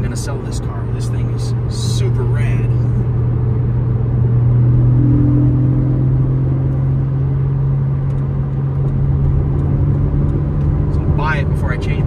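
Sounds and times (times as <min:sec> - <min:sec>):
car engine droning: 0:00.0 - 0:12.0
tyre and road noise: 0:00.0 - 0:12.0.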